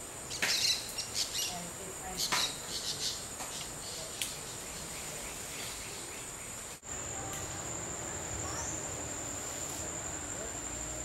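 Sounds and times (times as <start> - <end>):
jungle insects droning: 0.0 - 11.0.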